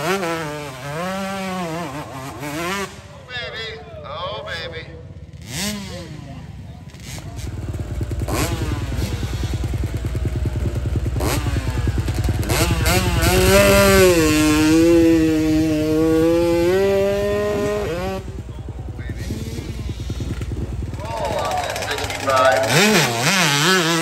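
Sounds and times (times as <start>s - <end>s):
dirt bike engine revving: 0.0s - 24.0s
low engine rumble: 2.0s - 23.2s.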